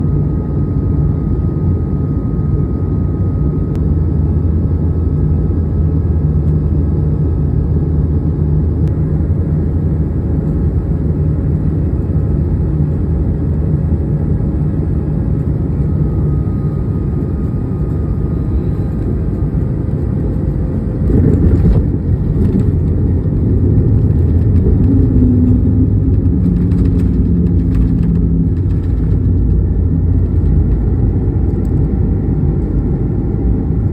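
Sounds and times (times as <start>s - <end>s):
airplane cabin engine rumble: 0.0s - 33.9s
faint whine: 0.0s - 33.9s.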